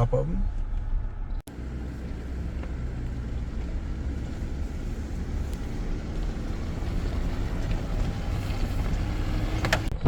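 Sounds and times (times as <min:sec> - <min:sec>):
engine and tyres rumbling: 0:00.6 - 0:10.0.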